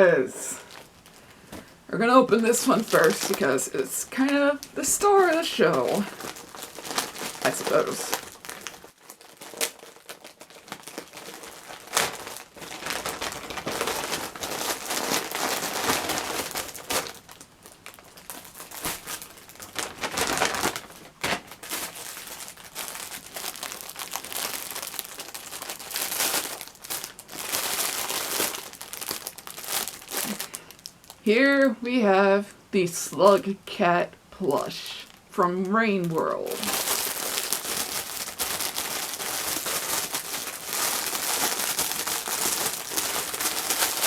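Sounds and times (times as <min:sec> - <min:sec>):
packaging crinkling and rustling: 0:00.6 - 0:31.7, 0:34.6 - 0:44.0
wrapping tearing: 0:02.4 - 0:31.3, 0:36.0 - 0:44.0.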